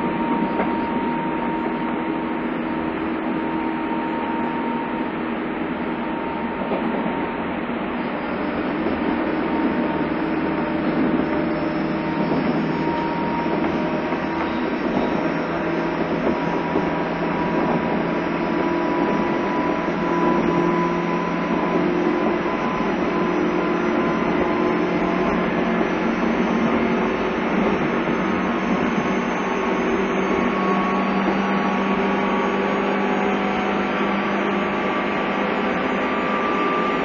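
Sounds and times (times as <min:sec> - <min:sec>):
faint humming tones: 0:00.0 - 0:37.0.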